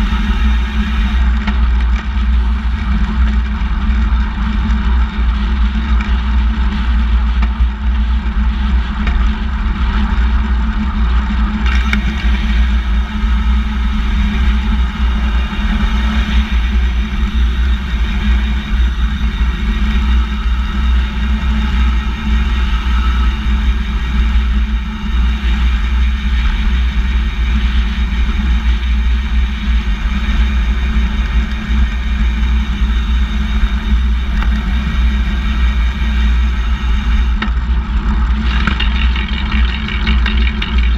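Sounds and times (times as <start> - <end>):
chain drivetrain hum: 0.0 - 40.9
road rumble: 0.0 - 40.9.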